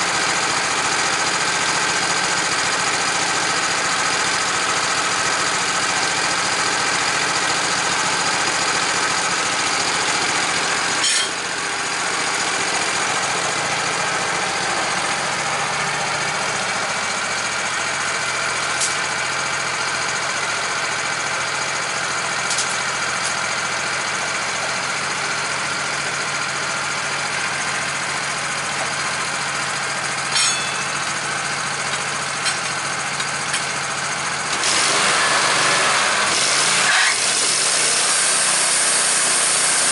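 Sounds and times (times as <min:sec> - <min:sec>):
motor running: 0:07.8 - 0:39.9.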